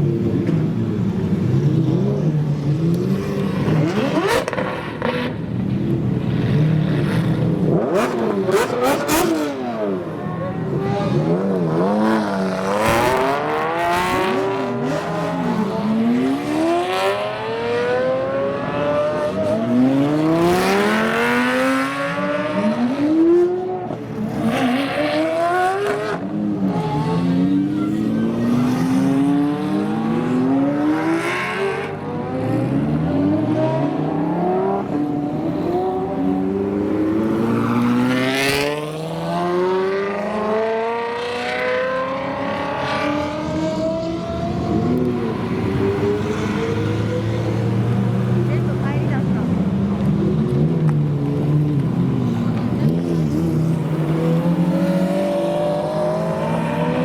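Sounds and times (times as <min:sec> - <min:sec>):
car engines accelerating hard: 0:00.0 - 0:57.0.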